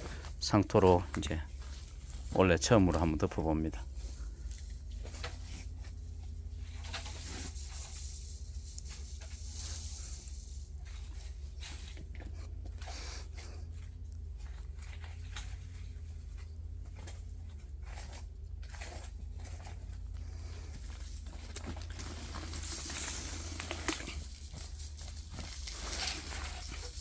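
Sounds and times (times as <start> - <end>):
soil rustling and scraping: 0.0 - 27.0
steady low hum: 0.0 - 27.0.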